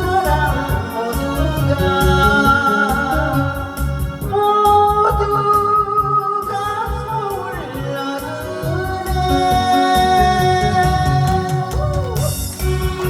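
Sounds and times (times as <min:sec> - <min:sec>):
backing track with drum beat: 0:00.0 - 0:13.0
woman singing: 0:00.0 - 0:13.0.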